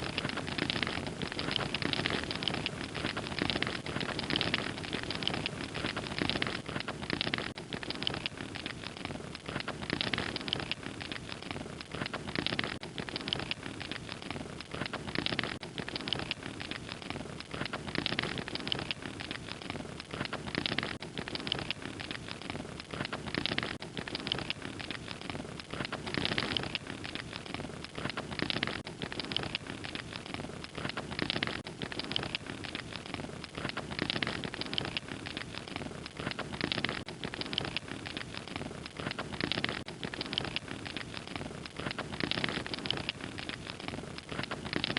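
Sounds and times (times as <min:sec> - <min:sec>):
open fire crackling: 0:00.0 - 0:44.9.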